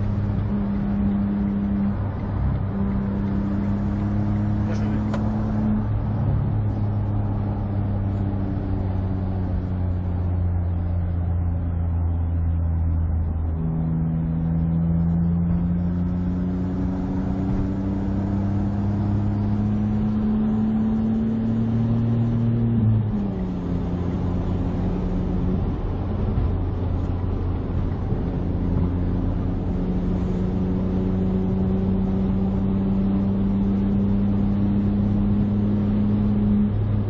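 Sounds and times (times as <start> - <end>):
car engine and exhaust running: 0.0 - 37.0.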